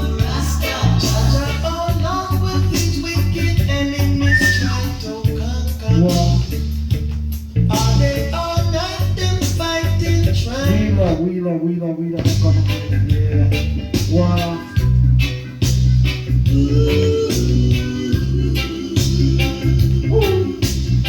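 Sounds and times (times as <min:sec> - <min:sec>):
reggae song with singing: 0:00.0 - 0:21.0.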